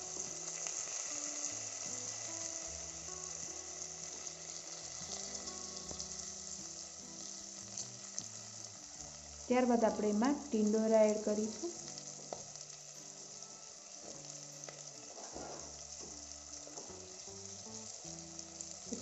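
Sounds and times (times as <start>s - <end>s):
soft background music: 0.0s - 19.0s
vegetables sizzling in oil: 0.0s - 19.0s.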